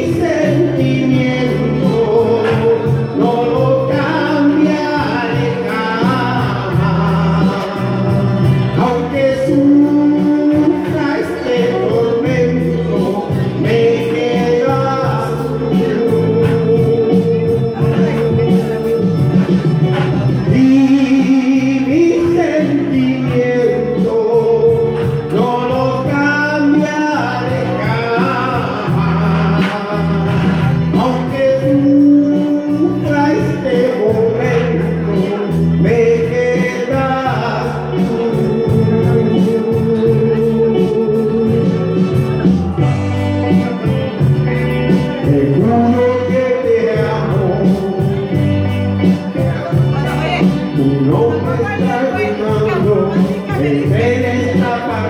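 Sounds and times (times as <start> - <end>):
instrumental backing: 0.0 - 55.0
man singing long notes: 0.0 - 55.0.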